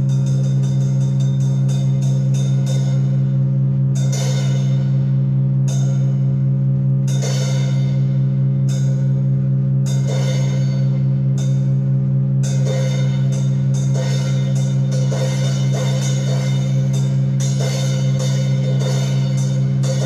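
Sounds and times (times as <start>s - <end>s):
bell-like struck notes: 0.0s - 6.4s, 7.0s - 20.0s
low electronic drone: 0.0s - 20.0s.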